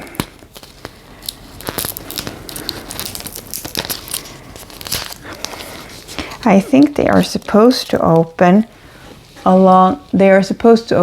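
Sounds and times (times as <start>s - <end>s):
plastic packaging crinkling and tearing: 0.0s - 9.4s.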